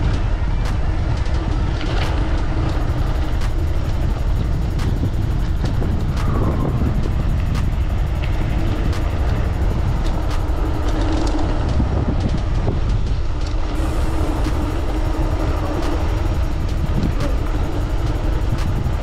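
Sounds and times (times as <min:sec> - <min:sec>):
bike clicks and rattles: 0:00.0 - 0:19.0
wind rumbling on microphone: 0:00.0 - 0:19.0.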